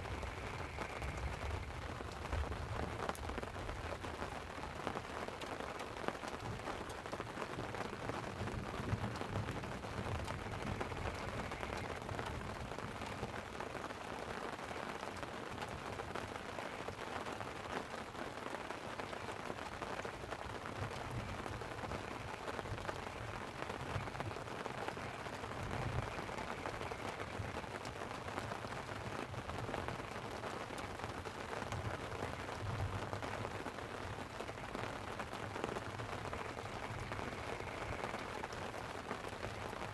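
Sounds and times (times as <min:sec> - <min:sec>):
light rain on a tent: 0:00.0 - 0:39.9.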